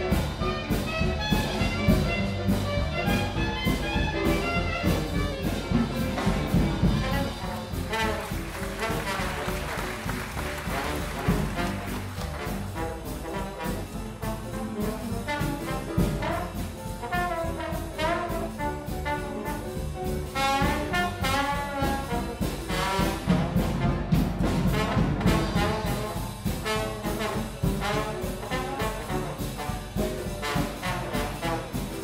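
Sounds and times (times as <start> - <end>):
jazzy brass music with beat: 0.0 - 32.0.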